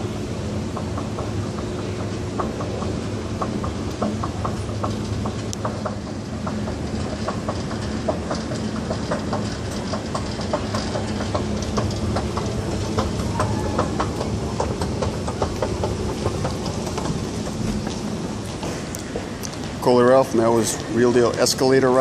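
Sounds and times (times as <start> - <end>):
escalator hum: 0.0 - 22.0
escalator steps clicking and rattling: 0.0 - 22.0.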